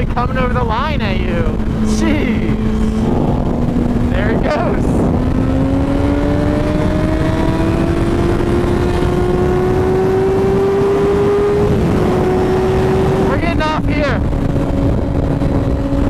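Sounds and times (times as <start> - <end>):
motorcycle engine revving: 0.0 - 16.0
wind rushing on microphone: 0.0 - 16.0.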